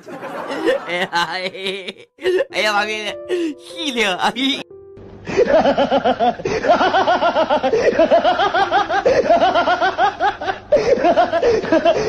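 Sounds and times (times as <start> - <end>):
person laughing: 0.0 - 2.6, 4.2 - 4.6, 5.3 - 12.0.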